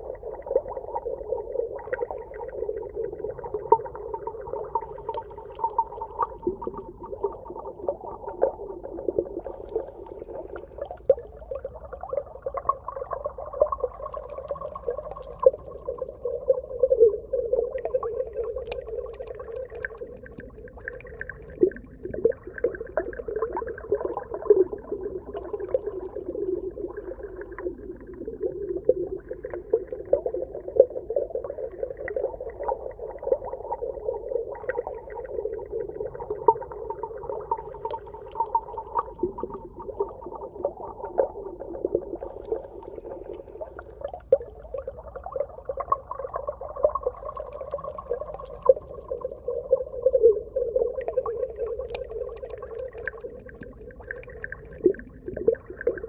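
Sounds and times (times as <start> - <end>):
underwater crackling and popping: 0.0 - 56.0.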